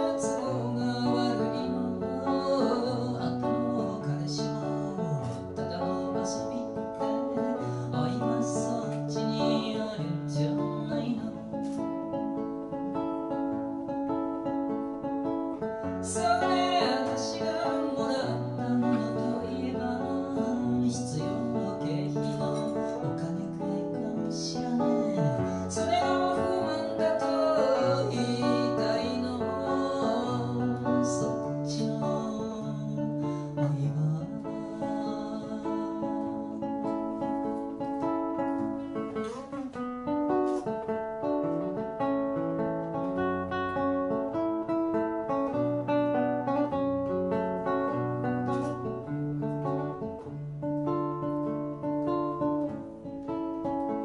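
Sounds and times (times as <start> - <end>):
acoustic guitar chords: 0.0 - 54.0
woman singing: 0.0 - 54.0.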